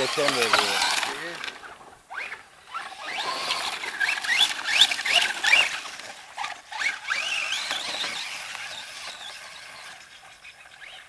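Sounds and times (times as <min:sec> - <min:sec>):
electric toy car motor whining: 0:00.0 - 0:11.0.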